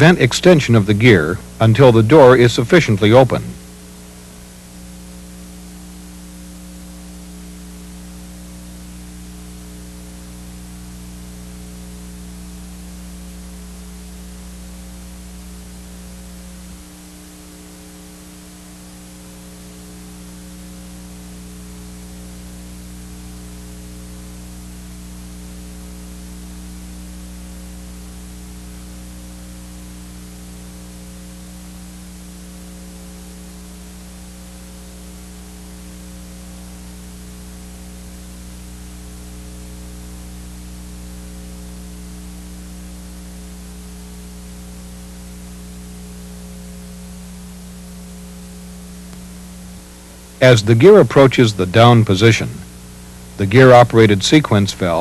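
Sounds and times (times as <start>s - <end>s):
electrical hum with hiss: 0.0s - 55.0s.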